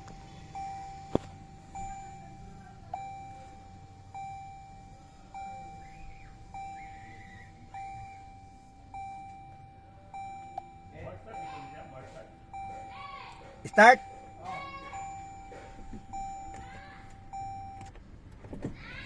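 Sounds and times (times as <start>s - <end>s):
vehicle warning chime dinging: 0.0s - 19.0s.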